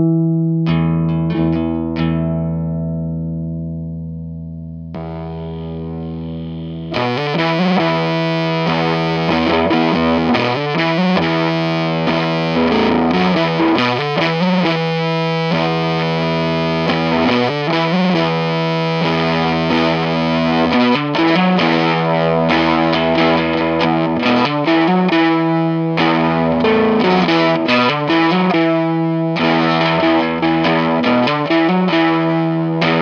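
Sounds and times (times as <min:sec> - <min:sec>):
distorted chords strummed: 0:00.0 - 0:33.0
fuzzy electric guitar chords: 0:00.0 - 0:33.0.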